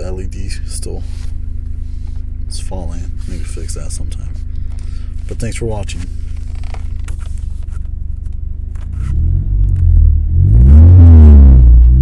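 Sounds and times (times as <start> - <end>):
car engine running and revving: 0.0 - 12.0.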